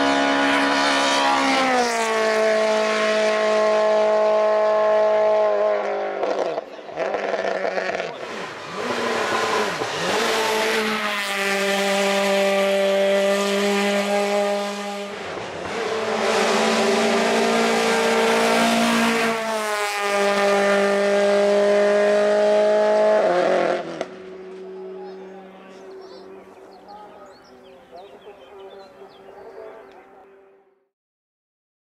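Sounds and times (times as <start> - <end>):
race car engine at high revs: 0.0 - 27.5.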